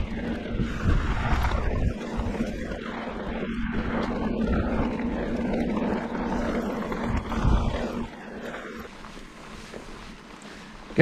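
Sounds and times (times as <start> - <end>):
wind rushing over microphone: 0.0 - 9.0
bike tyres rolling on dirt: 0.0 - 11.0
steady low hum: 0.0 - 11.0.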